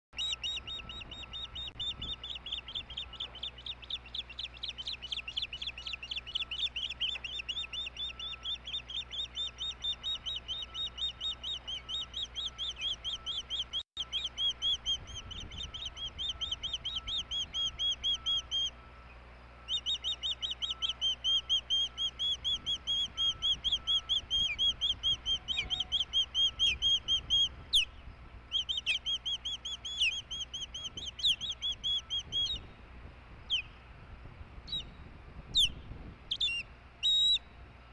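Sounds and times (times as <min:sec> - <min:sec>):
osprey piping chirps: 0:00.1 - 0:33.9, 0:34.6 - 0:37.5.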